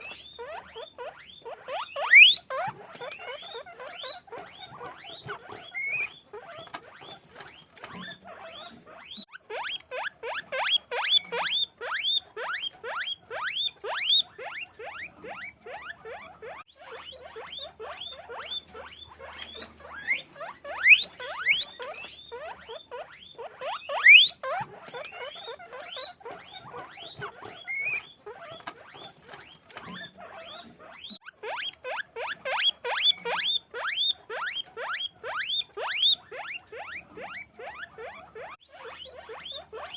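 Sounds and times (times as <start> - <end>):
guinea pig squeaking: 0.0 - 39.9.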